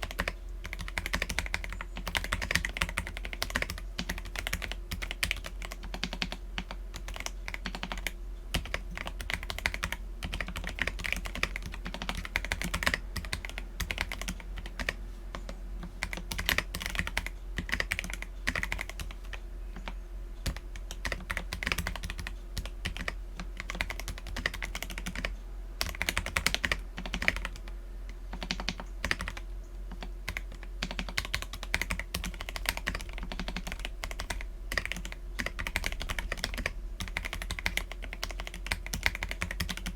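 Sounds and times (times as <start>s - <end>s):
fast mechanical keyboard typing: 0.0s - 27.7s, 28.3s - 39.9s.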